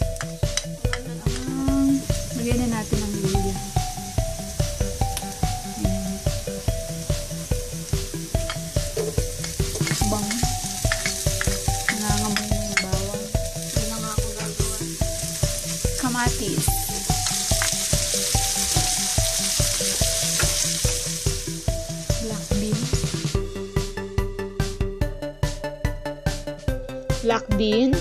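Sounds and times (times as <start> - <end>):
vegetables sizzling in oil: 0.0 - 23.7
background music with beat: 0.0 - 28.0.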